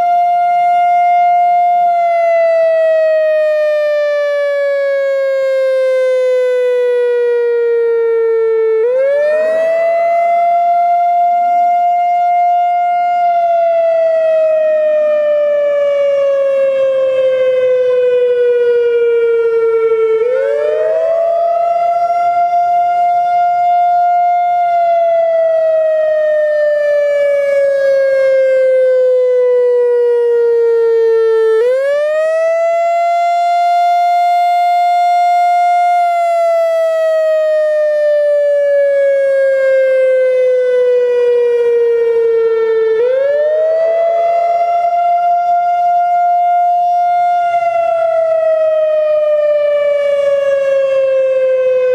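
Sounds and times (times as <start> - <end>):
tornado siren wailing: 0.0 - 51.9.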